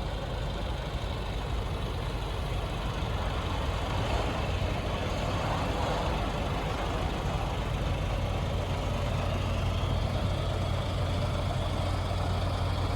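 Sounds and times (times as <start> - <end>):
diesel truck idling: 0.0 - 12.9.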